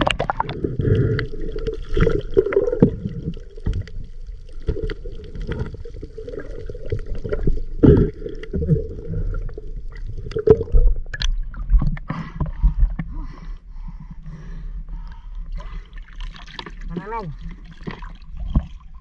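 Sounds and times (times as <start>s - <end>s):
muffled water sloshing and gurgling: 0.0s - 19.0s.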